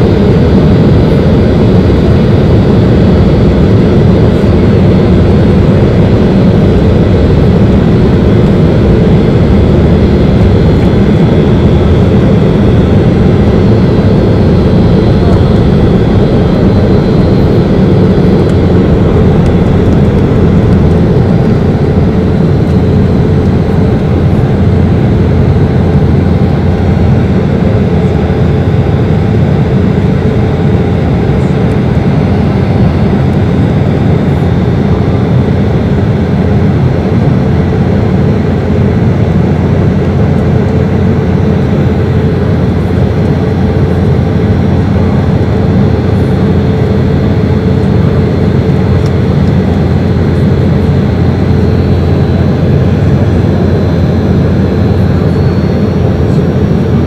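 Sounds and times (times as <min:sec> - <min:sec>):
airliner cabin engine drone: 0:00.0 - 0:57.0
thin engine whine: 0:00.0 - 0:57.0.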